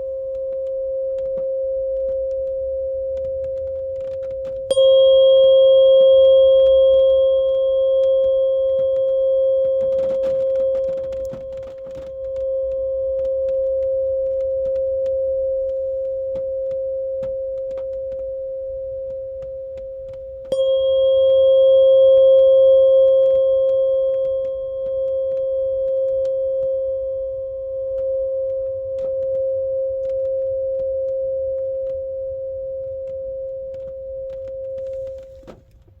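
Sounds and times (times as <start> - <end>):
tuning fork ringing: 0.0 - 35.5
tuning fork struck click: 0.0 - 35.6.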